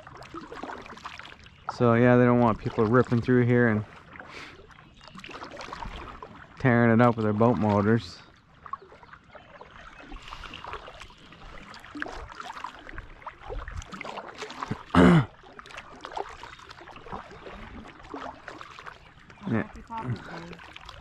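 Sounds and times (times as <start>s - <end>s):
kayak paddle strokes in water: 0.0s - 21.0s
water dripping against hull: 0.0s - 21.0s.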